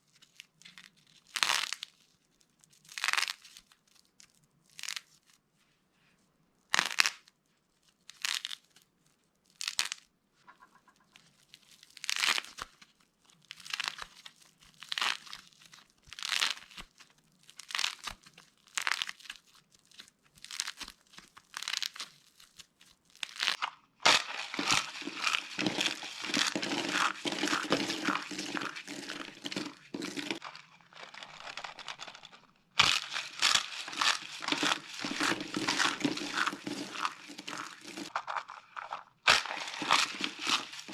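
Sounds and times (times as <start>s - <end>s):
dry soap crunching by hand: 0.0s - 5.4s, 6.6s - 40.9s.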